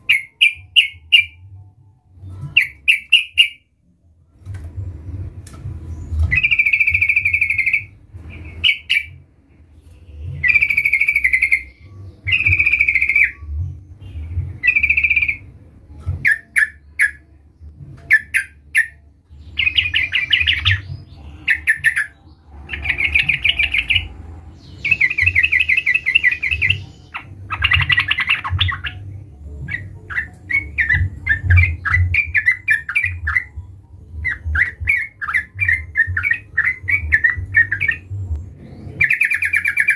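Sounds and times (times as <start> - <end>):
bulbul singing: 0.0 - 3.8, 5.8 - 39.9
low rumble: 3.7 - 16.2, 16.8 - 39.2.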